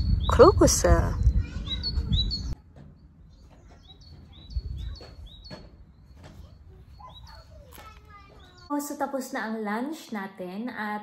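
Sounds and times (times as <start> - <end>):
songbird chirping: 0.0 - 9.0.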